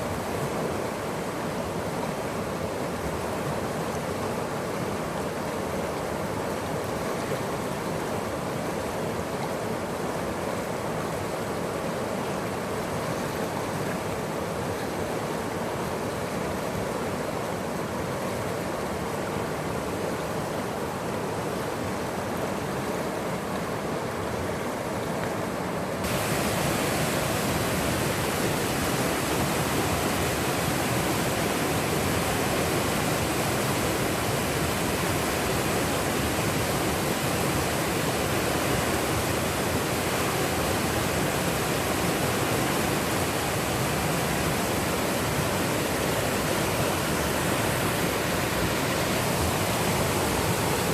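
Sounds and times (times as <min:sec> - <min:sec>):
rushing water hiss: 0:00.0 - 0:50.9.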